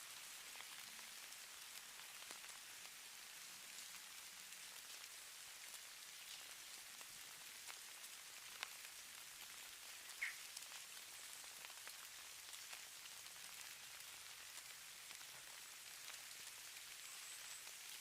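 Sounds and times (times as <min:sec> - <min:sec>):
faint high hiss of snow: 0:00.0 - 0:18.0
snowflakes ticking on surfaces: 0:00.0 - 0:18.0.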